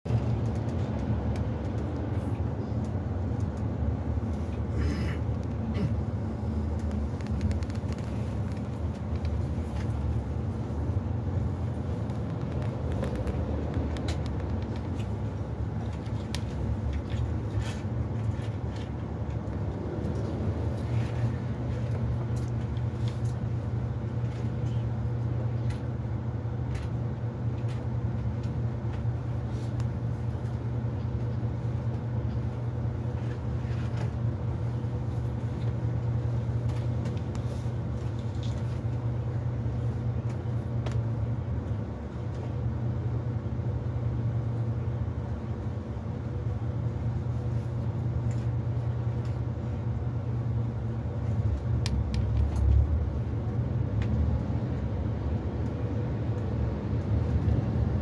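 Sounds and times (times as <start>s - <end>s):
bus engine idling: 0.1s - 58.0s.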